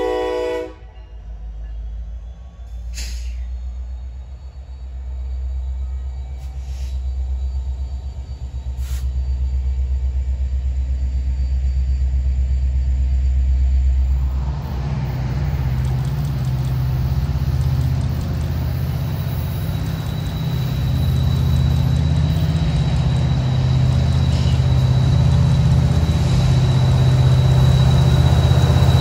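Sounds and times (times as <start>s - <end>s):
approaching train hissy rumble: 0.0s - 29.0s
freight train rumbling past: 0.0s - 29.0s.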